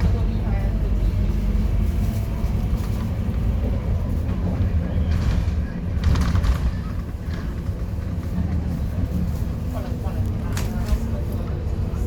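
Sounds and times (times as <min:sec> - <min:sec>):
bus diesel engine droning: 0:00.0 - 0:12.0.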